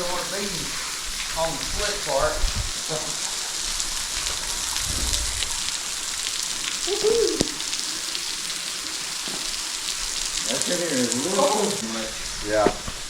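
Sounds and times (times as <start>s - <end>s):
waterfall hissing: 0.0s - 13.0s.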